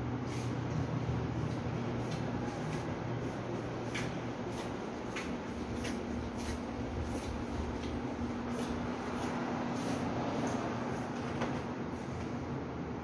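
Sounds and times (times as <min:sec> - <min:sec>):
room noise hum and hiss: 0:00.0 - 0:13.0
footsteps on tiled floor: 0:00.3 - 0:12.4.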